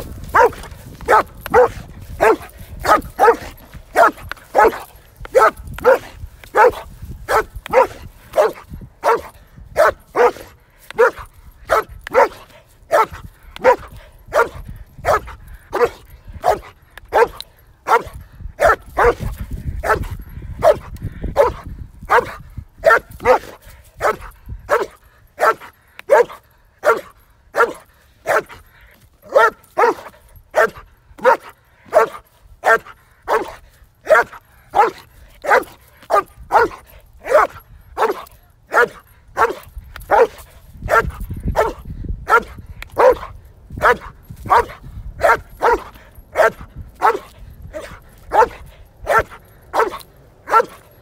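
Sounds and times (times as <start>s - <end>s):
dog barking steadily: 0.0s - 51.0s.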